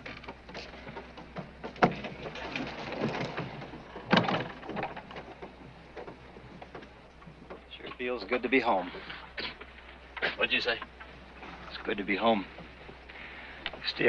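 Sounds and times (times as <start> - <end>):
footsteps on wooden deck: 0.0 - 13.9.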